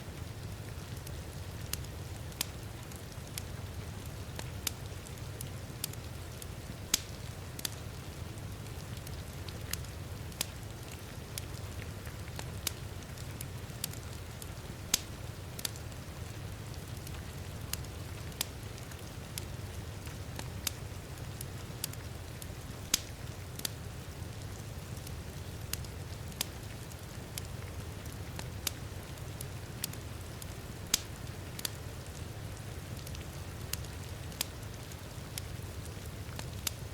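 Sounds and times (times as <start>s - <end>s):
rain falling: 0.0s - 36.9s
wood fire crackling: 0.0s - 36.9s.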